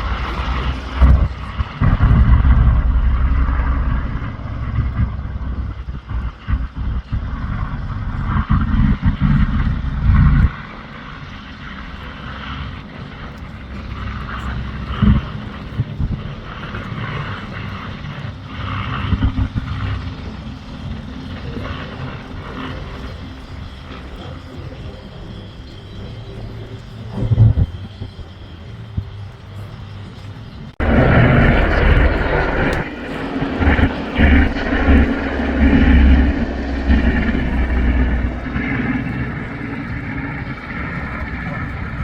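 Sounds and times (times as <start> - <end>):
aircraft engine rumble: 0.0 - 42.0.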